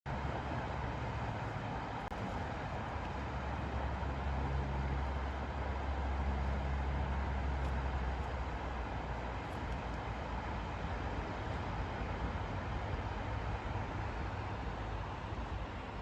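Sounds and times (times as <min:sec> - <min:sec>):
faint engine hum: 0:00.1 - 0:16.0.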